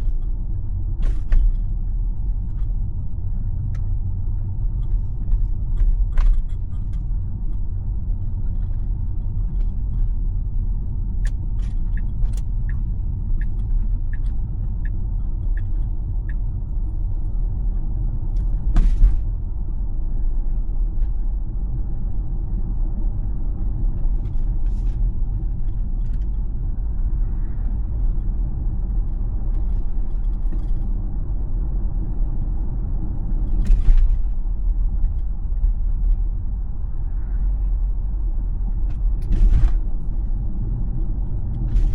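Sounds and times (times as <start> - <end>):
road and tyre rumble: 0.0 - 41.9.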